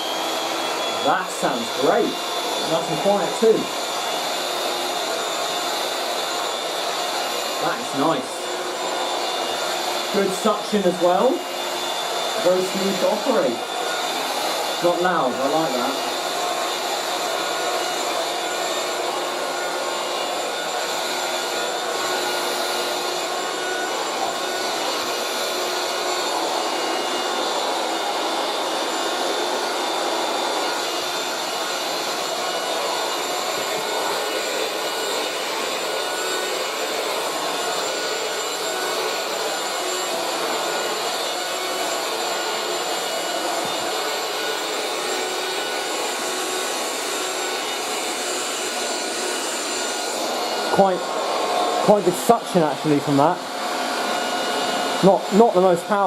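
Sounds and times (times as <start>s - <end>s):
handheld vacuum cleaner whining: 0.0s - 56.0s.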